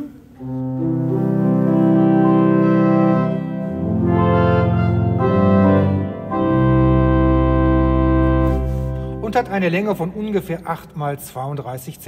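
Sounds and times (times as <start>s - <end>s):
pipe organ sustained chords: 0.0s - 11.6s.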